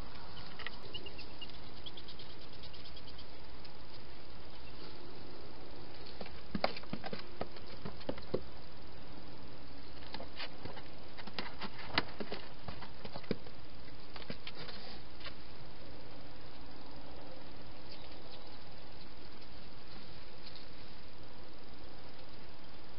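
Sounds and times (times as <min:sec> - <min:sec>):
steady hiss: 0:00.0 - 0:22.9.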